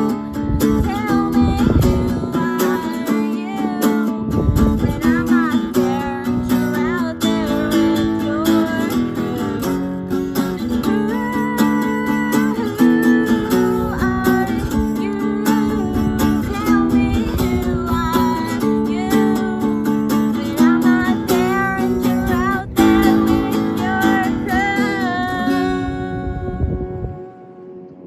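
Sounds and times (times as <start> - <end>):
acoustic guitars strumming: 0.0 - 28.0
person singing: 0.0 - 28.0.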